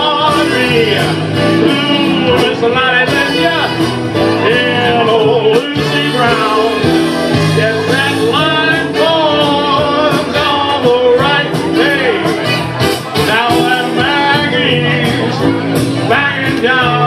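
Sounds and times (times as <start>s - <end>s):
man singing through microphone: 0.0s - 17.0s
recorded band backing track: 0.0s - 17.0s.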